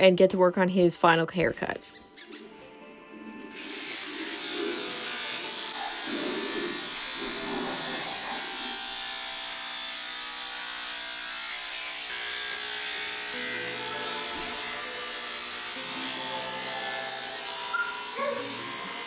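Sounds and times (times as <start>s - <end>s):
electric clippers buzzing: 2.1s - 19.0s.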